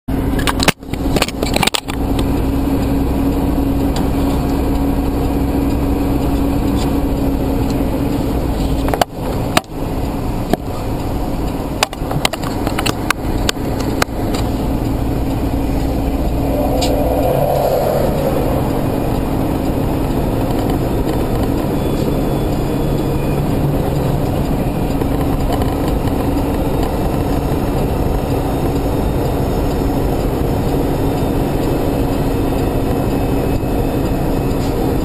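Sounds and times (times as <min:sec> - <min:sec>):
road noise: 0:00.1 - 0:35.0
truck engine drone: 0:00.1 - 0:35.0.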